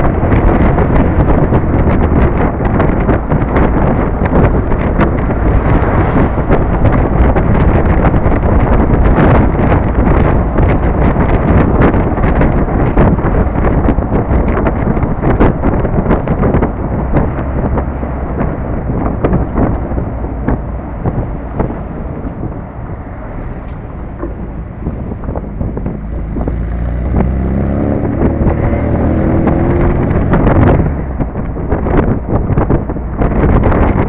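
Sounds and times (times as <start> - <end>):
car engine running: 0.0 - 34.0
wind buffeting microphone: 0.0 - 34.0.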